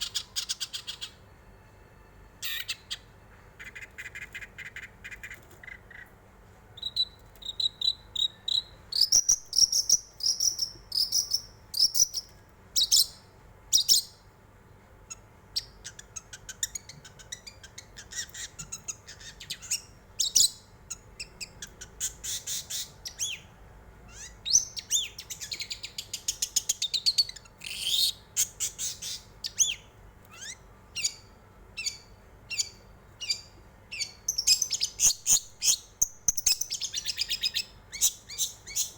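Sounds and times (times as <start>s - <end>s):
shrike singing chattering song: 0.0s - 1.3s, 2.4s - 6.1s, 6.8s - 14.2s, 15.0s - 38.9s.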